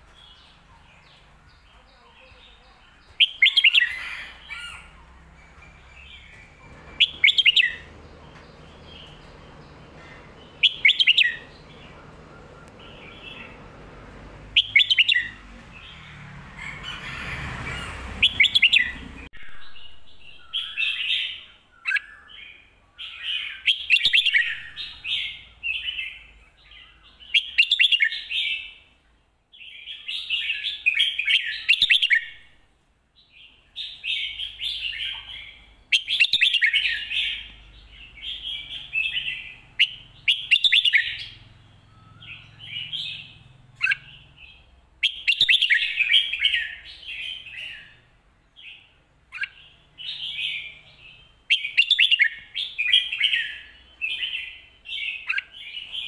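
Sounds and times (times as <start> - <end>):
bird warbling song: 0.0 - 28.9, 33.2 - 56.0.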